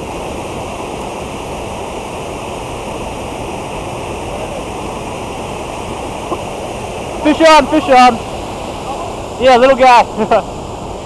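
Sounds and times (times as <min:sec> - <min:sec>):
water pouring and splashing: 0:00.0 - 0:10.1.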